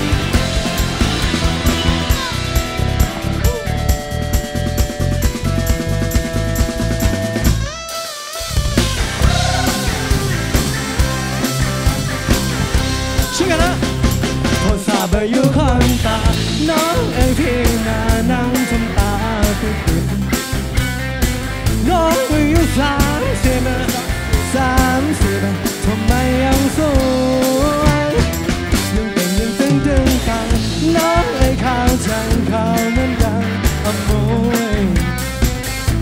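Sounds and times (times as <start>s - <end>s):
heavy bass line: 0.0s - 14.8s, 15.4s - 36.0s
drum kit beat: 0.0s - 36.0s
live band playing upbeat song: 0.0s - 36.0s.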